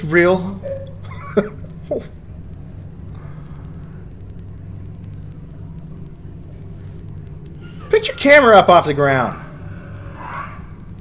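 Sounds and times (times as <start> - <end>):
low rumble with hum: 0.0 - 11.0.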